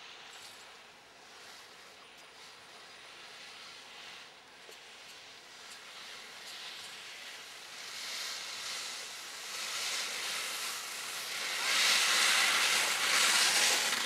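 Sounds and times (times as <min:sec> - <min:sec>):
skis scraping over snow: 0:00.0 - 0:14.0.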